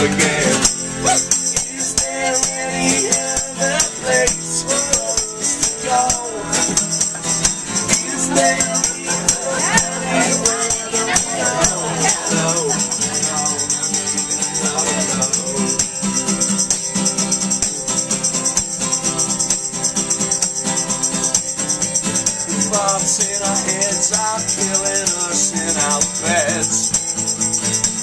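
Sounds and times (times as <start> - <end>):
acoustic guitars strummed: 0.0 - 28.0.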